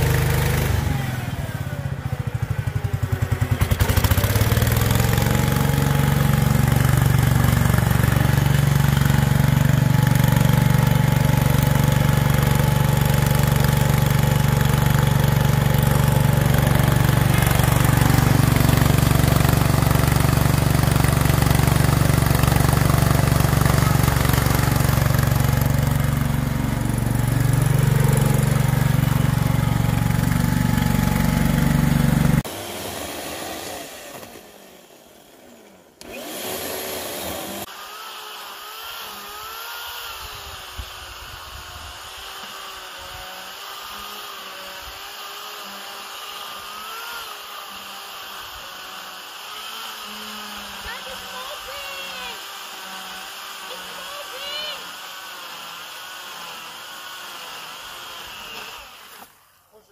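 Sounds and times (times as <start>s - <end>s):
garden tractor engine running: 0.0s - 59.9s.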